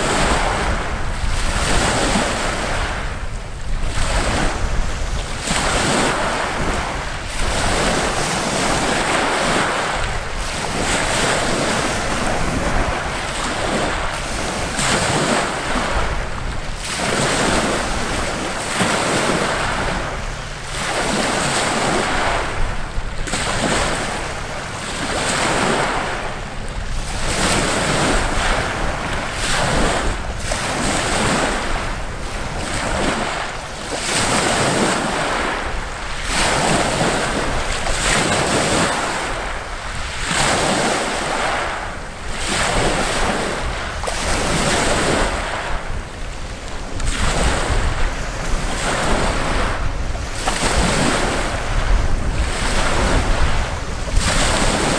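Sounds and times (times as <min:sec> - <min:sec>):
waves washing over pebbles: 0:00.0 - 0:54.9
wind buffeting microphone: 0:00.0 - 0:54.9.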